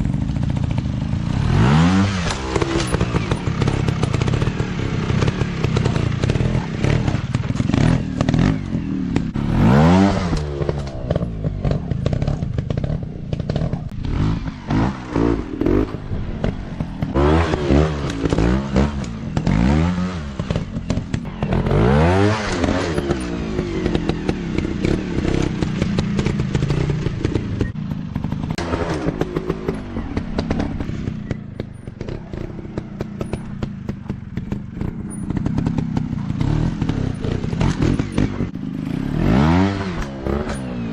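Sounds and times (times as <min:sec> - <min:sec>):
bikes clattering over rough ground: 0:00.0 - 0:40.9
dirt bike engines revving: 0:00.0 - 0:40.9.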